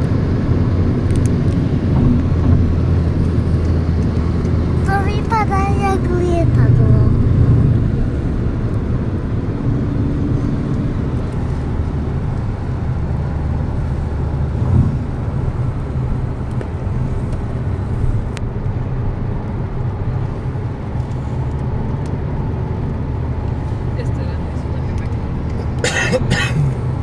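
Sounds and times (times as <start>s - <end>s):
car driving rumble inside cabin: 0.0s - 27.0s.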